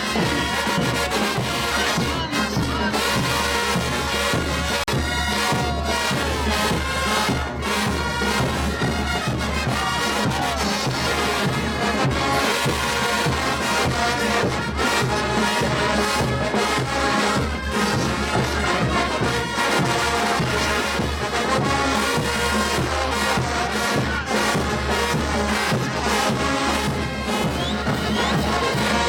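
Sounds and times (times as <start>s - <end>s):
bass drums: 0.0s - 29.0s
brass band playing loudly: 0.0s - 29.0s.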